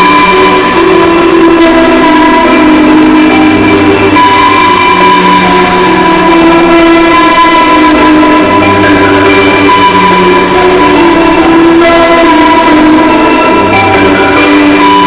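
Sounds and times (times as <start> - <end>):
alarm music sustained tones: 0.0 - 15.0.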